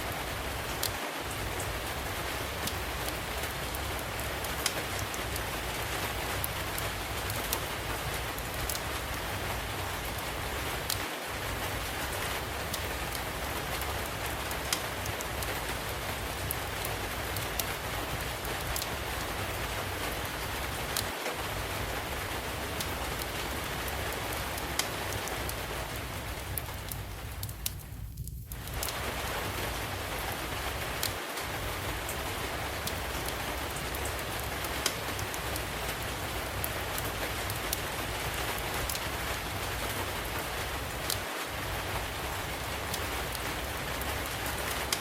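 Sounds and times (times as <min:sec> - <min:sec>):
steady rain: 0:00.0 - 0:45.0
wood fire crackling: 0:00.0 - 0:45.0.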